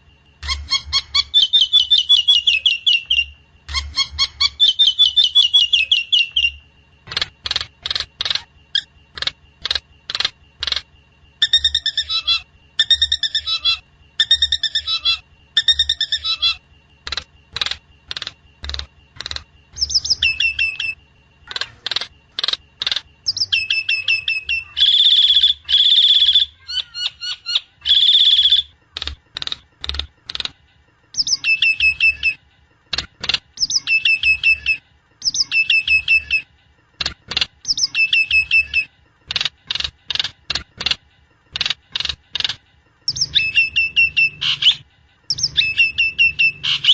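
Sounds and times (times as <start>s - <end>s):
myna calling and whistling: 0.4s - 30.5s, 31.1s - 32.4s, 33.6s - 36.5s, 37.6s - 40.3s, 42.0s - 46.9s.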